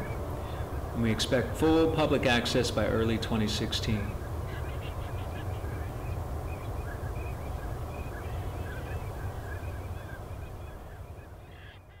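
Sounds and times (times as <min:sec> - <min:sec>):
waterbirds calling: 0:00.0 - 0:12.0.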